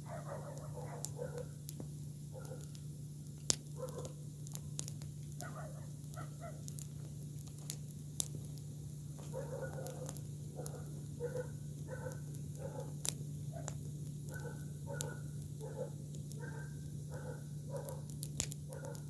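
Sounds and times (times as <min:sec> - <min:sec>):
campfire crackling and popping: 0:00.0 - 0:19.0
steady low hum: 0:00.0 - 0:19.0.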